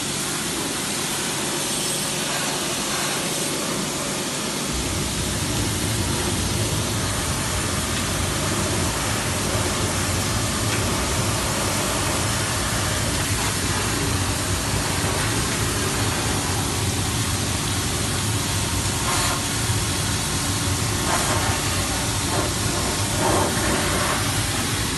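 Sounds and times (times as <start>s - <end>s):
pressure washer hum: 0.0s - 24.9s
pressure washer jet spraying: 0.0s - 24.9s.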